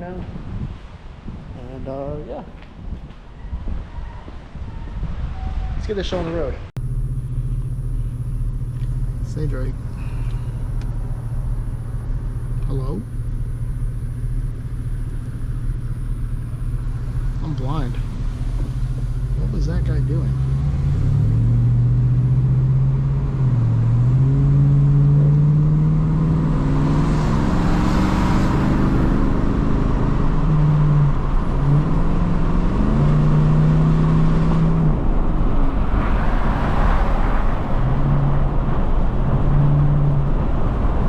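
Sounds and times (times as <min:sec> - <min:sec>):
road rumble: 0:00.0 - 0:41.0
car engine accelerating: 0:06.8 - 0:41.0.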